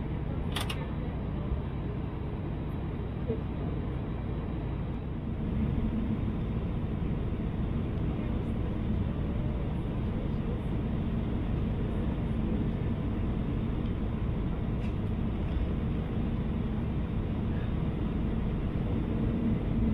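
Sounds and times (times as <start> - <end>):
airplane cabin engine rumble: 0.0 - 19.9.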